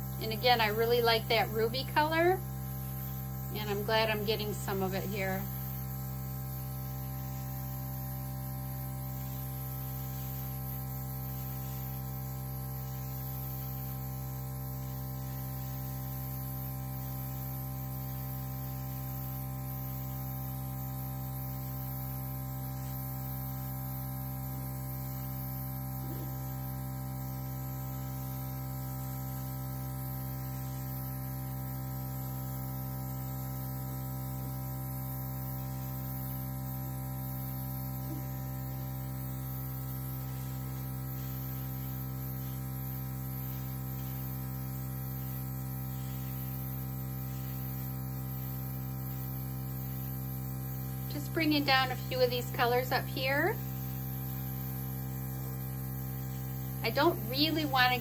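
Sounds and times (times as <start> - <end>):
air hissing from nozzle: 0.0 - 32.4, 34.3 - 58.0
air compressor humming: 0.0 - 58.0.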